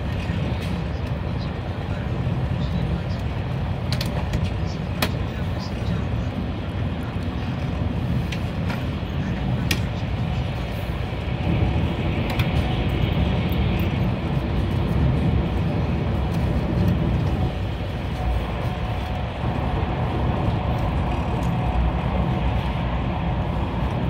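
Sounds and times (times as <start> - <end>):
train rumble inside cabin: 0.0 - 24.0.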